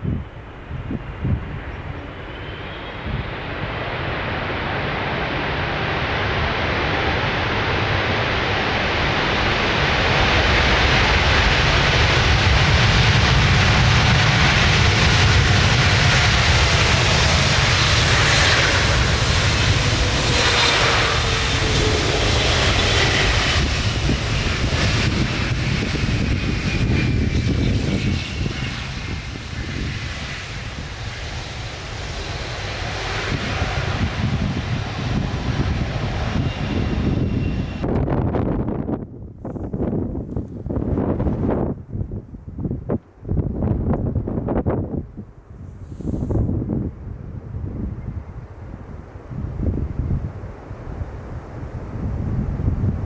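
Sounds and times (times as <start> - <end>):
jet airliner passing: 0.0 - 53.0.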